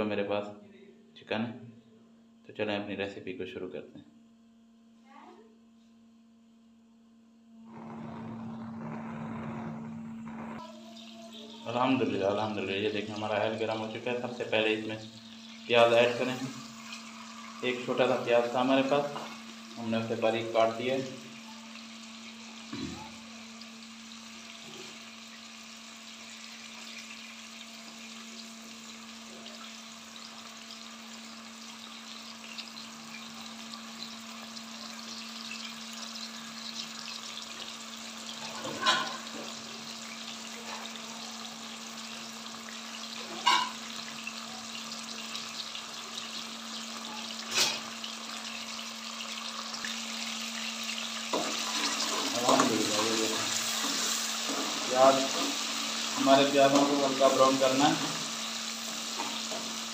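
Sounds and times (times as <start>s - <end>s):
onions sizzling in oil: 7.6s - 59.9s.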